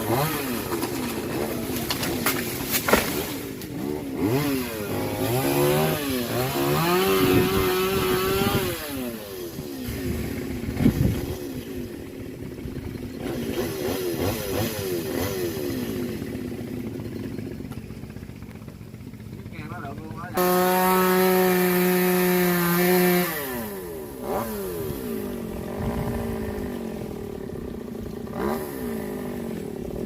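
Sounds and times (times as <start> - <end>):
chainsaw engine revving: 0.0 - 18.3, 19.1 - 30.0.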